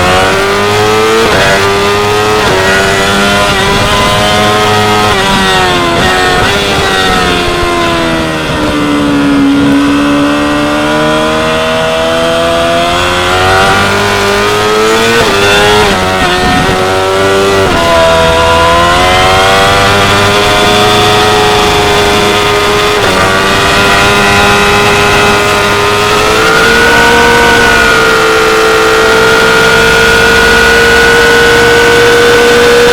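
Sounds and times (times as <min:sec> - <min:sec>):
motorcycle engine: 0:00.0 - 0:32.9.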